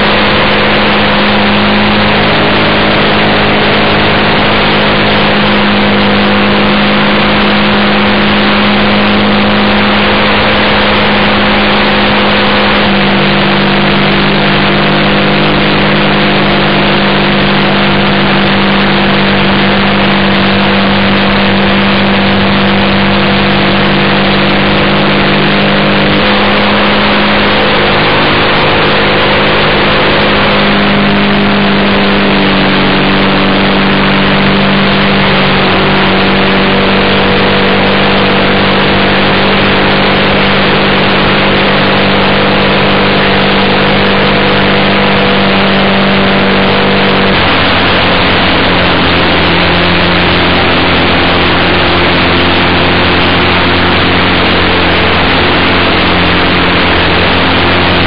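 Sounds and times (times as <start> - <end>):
model plane motor and propeller: 0.0 - 58.0.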